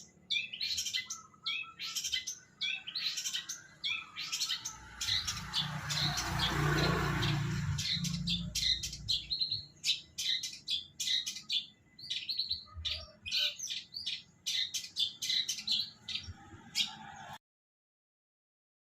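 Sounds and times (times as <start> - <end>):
bird chirping and chattering: 0.0 - 17.0.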